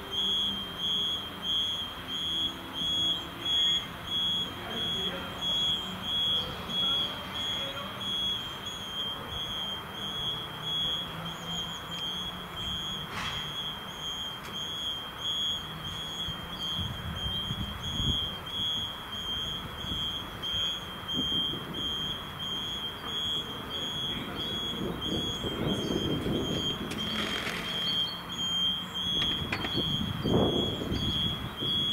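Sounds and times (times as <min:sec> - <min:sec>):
high-pitched electronic beeping: 0:00.0 - 0:31.9.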